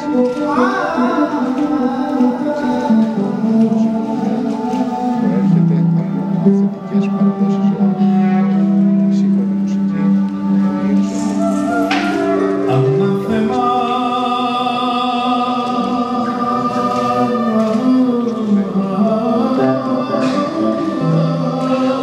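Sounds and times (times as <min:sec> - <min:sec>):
slow folk music with bending notes: 0:00.0 - 0:22.0.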